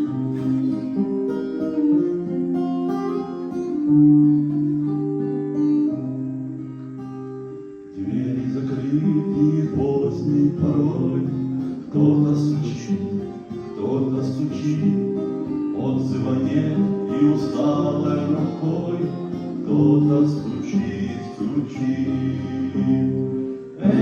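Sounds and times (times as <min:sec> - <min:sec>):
guitar chords: 0:00.0 - 0:24.0.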